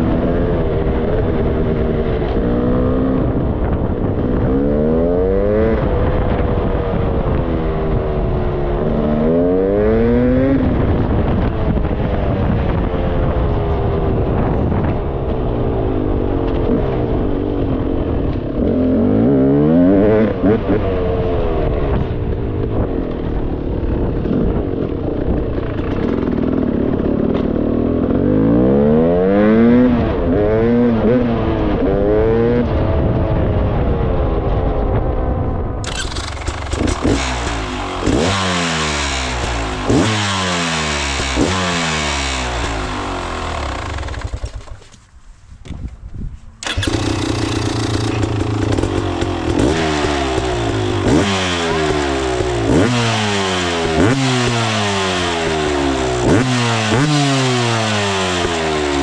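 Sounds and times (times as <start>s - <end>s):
dirt bike exhaust revving: 0.0s - 33.9s, 35.8s - 45.0s, 46.6s - 59.0s.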